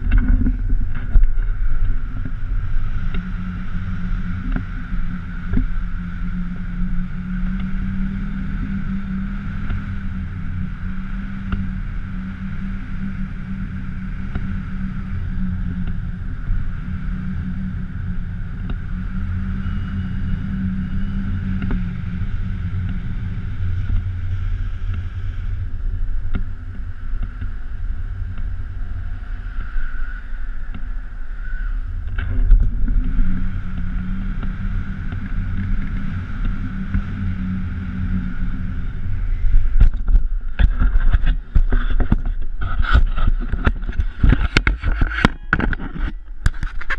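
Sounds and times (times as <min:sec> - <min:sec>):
wind rumbling over microphone: 0:00.0 - 0:46.9.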